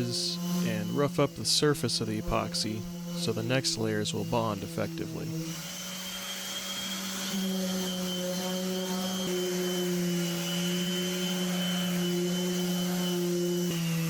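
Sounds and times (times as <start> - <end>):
orbital sander running: 0.0 - 14.0.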